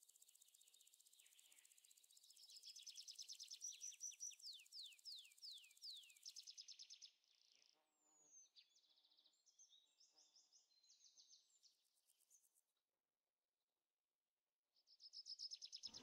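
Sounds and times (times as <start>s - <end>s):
faint songbird calls: 0.0s - 11.7s, 14.9s - 16.0s.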